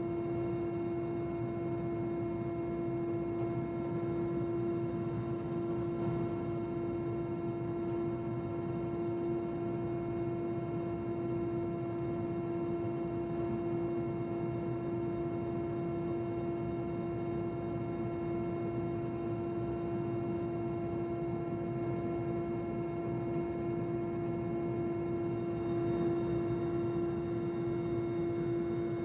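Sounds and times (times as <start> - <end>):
helicopter cabin drone: 0.0 - 29.0.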